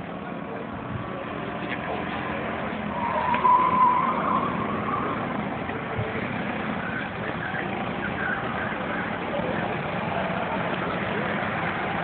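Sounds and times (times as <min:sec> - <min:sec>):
go-kart engines droning: 0:00.0 - 0:12.0.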